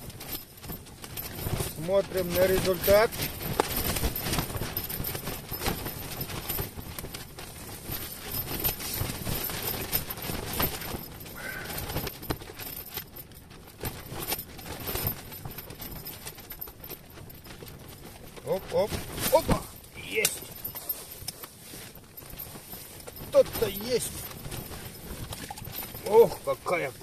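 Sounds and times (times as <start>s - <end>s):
wind buffeting tent fabric: 0.0s - 27.0s.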